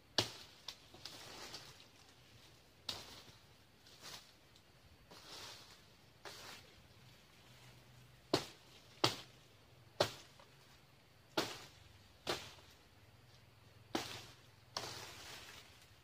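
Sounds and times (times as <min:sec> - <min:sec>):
machete chopping fronds: 0:00.0 - 0:04.4, 0:05.1 - 0:12.8, 0:13.8 - 0:16.0.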